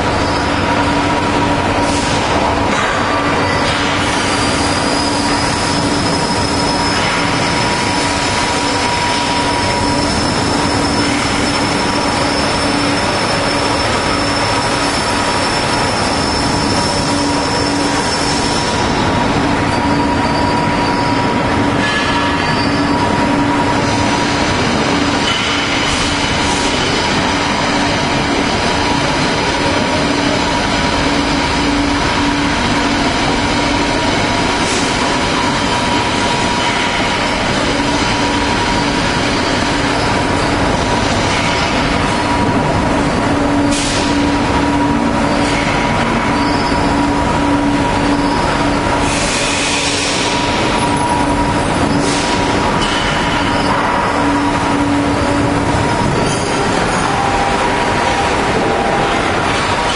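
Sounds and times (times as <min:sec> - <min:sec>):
higher machine whine: 0:00.0 - 0:59.9
industrial machine whine and hum: 0:00.0 - 0:59.9.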